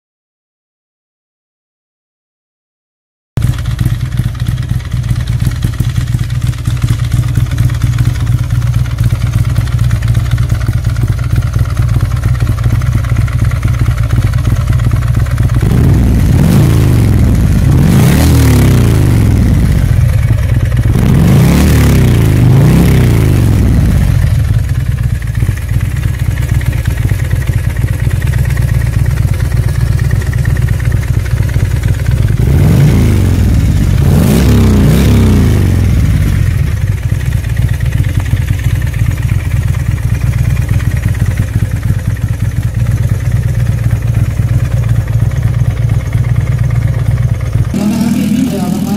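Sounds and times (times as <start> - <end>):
motorcycle engine idling and revving: 3.4 - 48.9.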